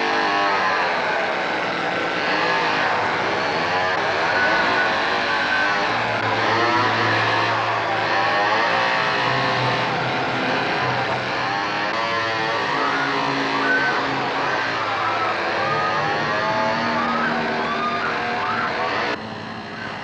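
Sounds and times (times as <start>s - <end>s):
chainsaw revving: 0.0s - 20.0s.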